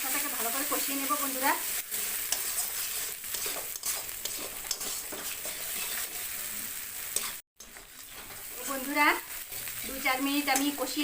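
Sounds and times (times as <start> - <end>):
paste sizzling in hot oil: 0.0 - 11.0
spoon scraping a pan: 0.4 - 11.0.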